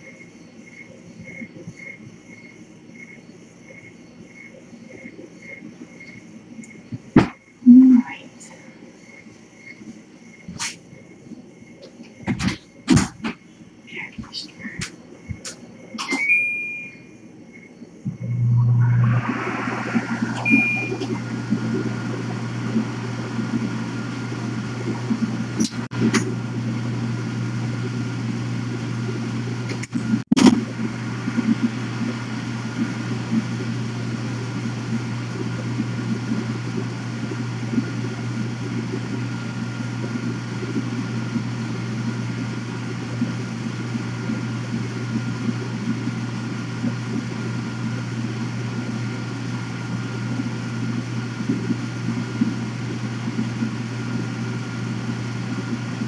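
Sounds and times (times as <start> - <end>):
faint steady whine: 0.0 - 56.0
low mechanical fan hum: 0.0 - 56.0.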